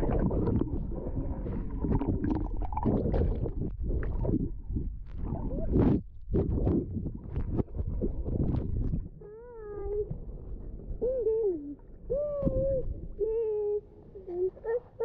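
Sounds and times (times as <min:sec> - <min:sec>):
muffled water sloshing underwater: 0:00.0 - 0:15.0.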